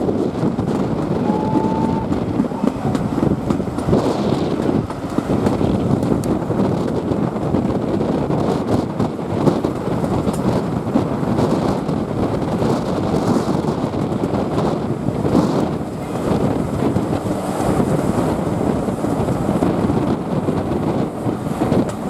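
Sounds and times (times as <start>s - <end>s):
train wheels rumbling on rails: 0.0s - 22.0s
wind buffeting microphone: 0.0s - 22.0s.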